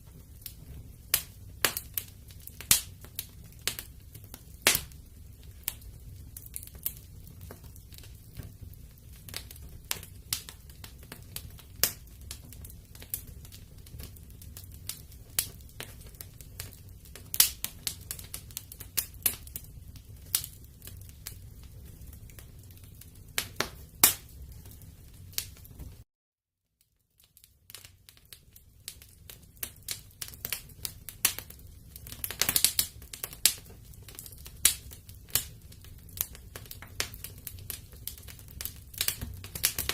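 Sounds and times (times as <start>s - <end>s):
wood fire crackling: 0.0s - 26.0s, 26.8s - 39.9s.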